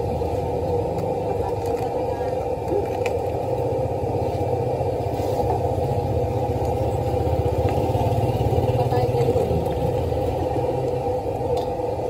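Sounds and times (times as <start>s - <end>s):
low mechanical rumble with hum: 0.0s - 12.0s.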